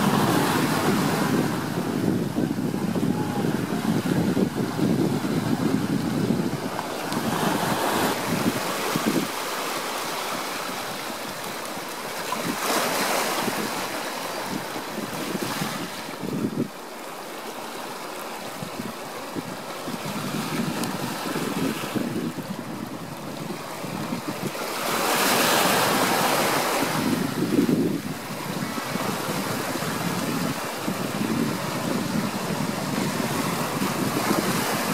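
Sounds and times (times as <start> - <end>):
ocean waves washing ashore: 0.0 - 34.9
wind: 0.0 - 34.9.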